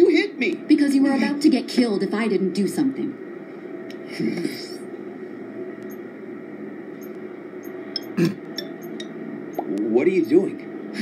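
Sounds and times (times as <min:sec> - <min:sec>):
low ambient hum: 0:00.0 - 0:11.0.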